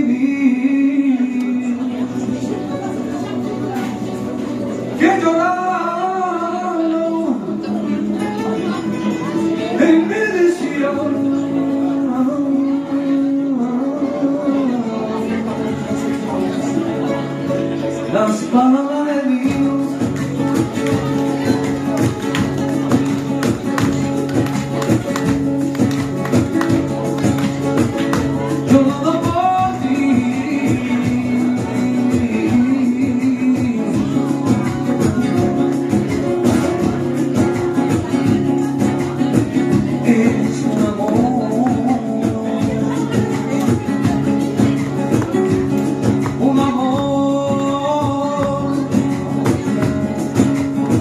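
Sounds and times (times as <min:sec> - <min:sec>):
acoustic guitars strumming: 0:00.0 - 0:51.0.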